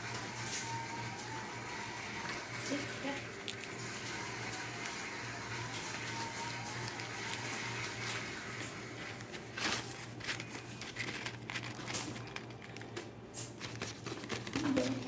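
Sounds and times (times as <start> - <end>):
paper wrapper crinkling: 0.1 - 15.0.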